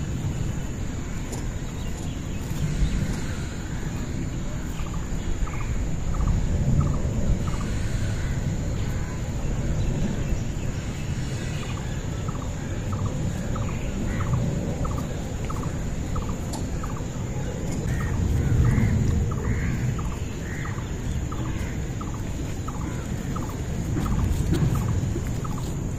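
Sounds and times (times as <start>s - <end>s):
low rumble: 0.0s - 25.9s.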